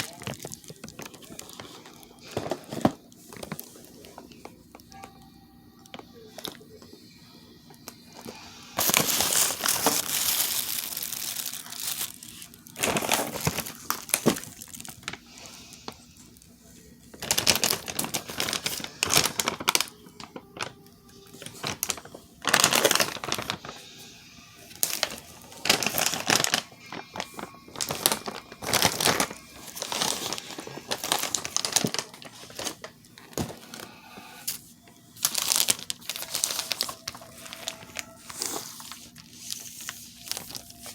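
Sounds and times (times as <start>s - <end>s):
packaging crinkling and rustling: 0.0s - 5.2s, 5.8s - 6.9s, 7.7s - 40.9s.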